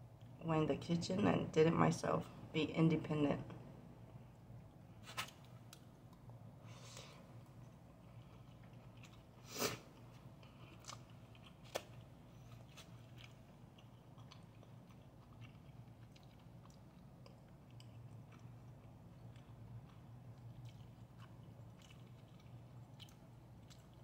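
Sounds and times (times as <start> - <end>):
person chewing food: 4.2 - 24.0.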